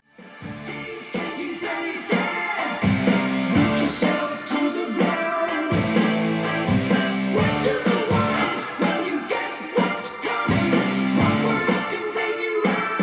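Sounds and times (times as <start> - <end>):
rock music over loudspeakers: 0.1 - 13.0.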